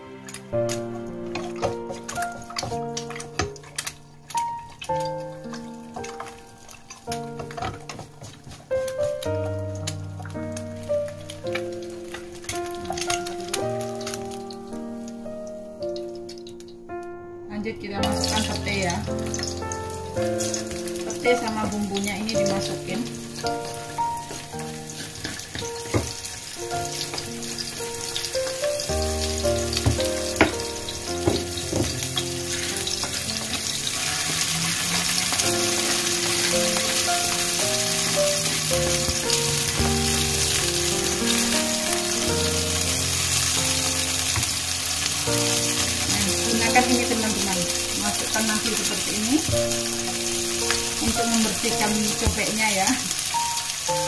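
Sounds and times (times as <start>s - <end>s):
food sizzling in hot oil: 0.0s - 16.9s, 17.6s - 54.0s
background music with melody: 0.0s - 54.0s.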